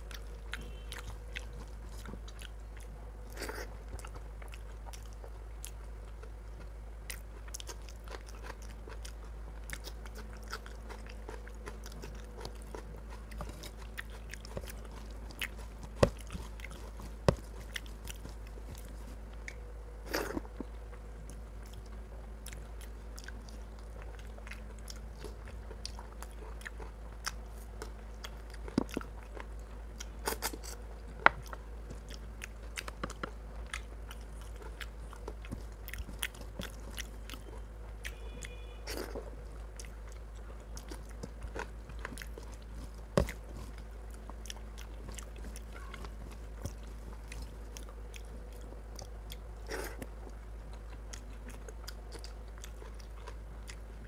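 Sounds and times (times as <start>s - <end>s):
chewing and wet mouth clicks: 0.0s - 53.9s
steady low hum: 0.0s - 54.0s.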